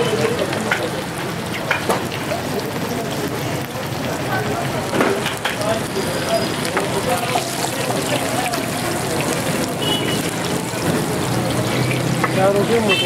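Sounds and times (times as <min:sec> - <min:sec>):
patties sizzling in hot oil: 0:00.0 - 0:13.0.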